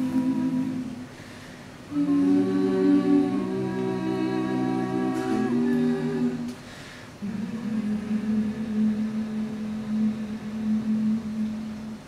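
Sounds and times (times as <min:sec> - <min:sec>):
a cappella group singing chord: 0:00.0 - 0:12.0.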